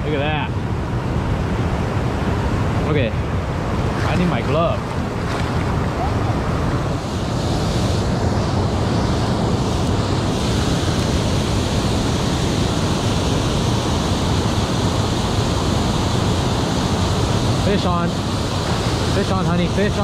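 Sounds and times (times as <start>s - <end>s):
water rushing over spillway: 1.8s - 20.0s.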